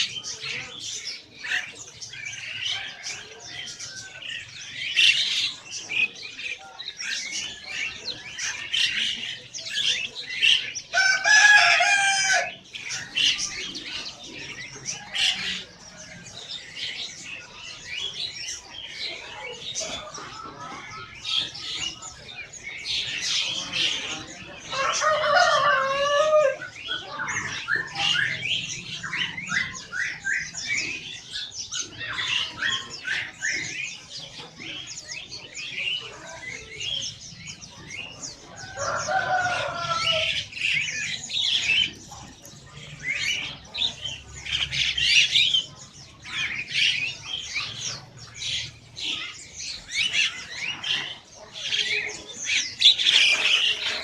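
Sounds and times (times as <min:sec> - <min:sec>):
caged birds chirping: 0:00.0 - 0:54.0.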